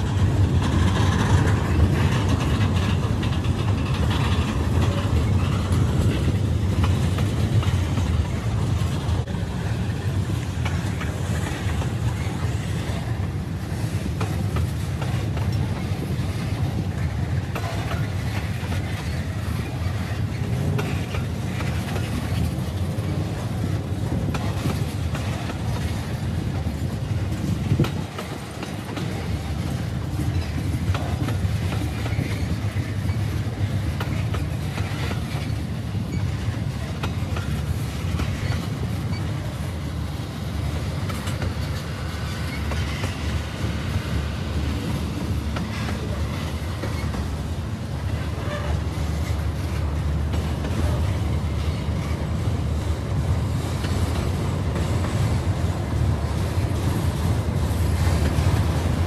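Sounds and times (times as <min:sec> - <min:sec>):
freight train rolling past: 0:00.0 - 0:59.0
wheels clicking over rail joints: 0:00.0 - 0:59.0.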